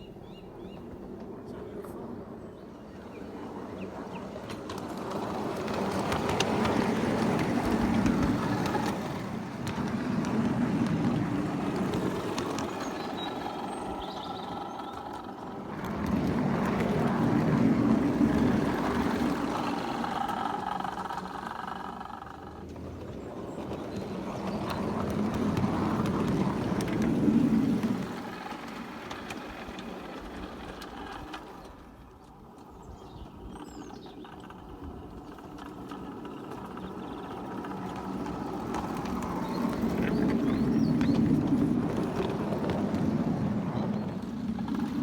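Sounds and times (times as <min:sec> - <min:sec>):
miniature train running on track: 0:00.0 - 0:45.0.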